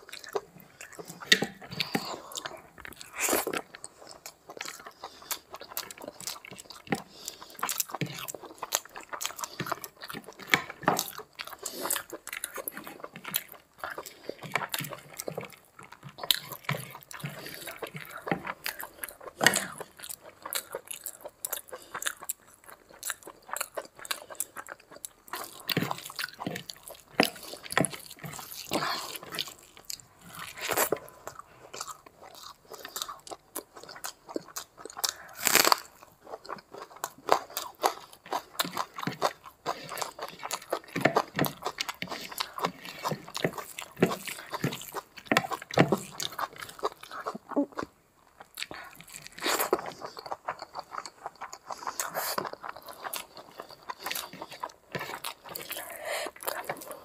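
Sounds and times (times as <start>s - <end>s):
wet chewing clicks and crunches: 0.0s - 57.0s.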